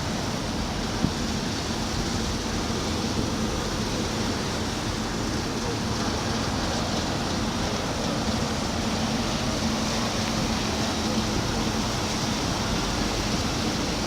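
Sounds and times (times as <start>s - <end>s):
boat engine hum: 0.0s - 14.0s
water rushing: 0.0s - 14.0s.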